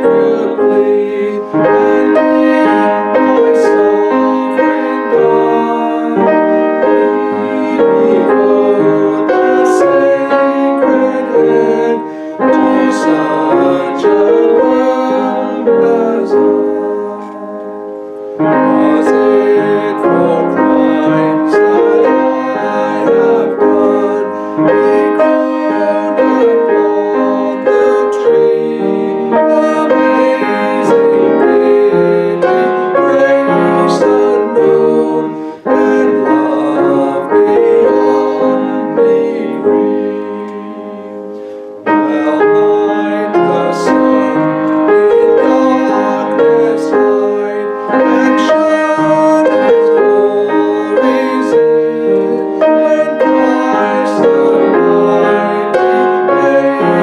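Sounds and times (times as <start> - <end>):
piano playing hymn chords: 0.0 - 57.0.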